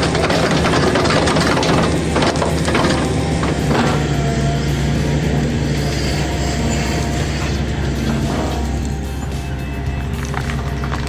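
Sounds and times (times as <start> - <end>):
machine engine hum: 0.0 - 11.0
music: 0.0 - 11.0.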